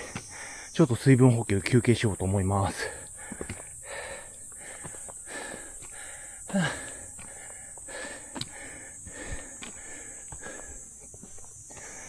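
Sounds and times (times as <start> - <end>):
person breathing hard: 0.0 - 0.7, 2.8 - 12.0.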